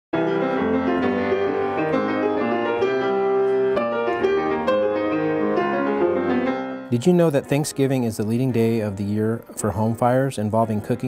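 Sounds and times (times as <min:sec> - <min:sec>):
piano background music: 0:00.2 - 0:11.0.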